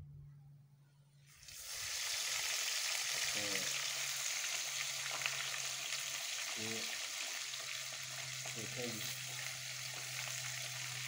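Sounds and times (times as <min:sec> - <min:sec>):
fish sizzling in hot oil: 0:01.3 - 0:11.0.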